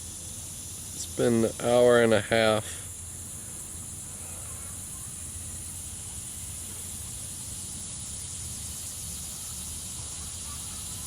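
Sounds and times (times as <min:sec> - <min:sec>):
insect chorus buzzing: 0:00.0 - 0:11.0
low steady rumble: 0:00.0 - 0:11.0.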